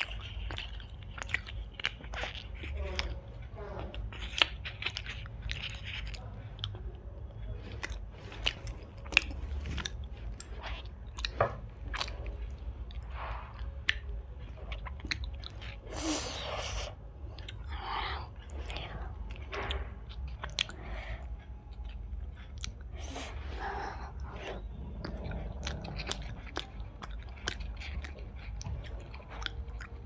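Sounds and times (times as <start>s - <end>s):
close chewing with mouth smacks: 0.0s - 30.0s.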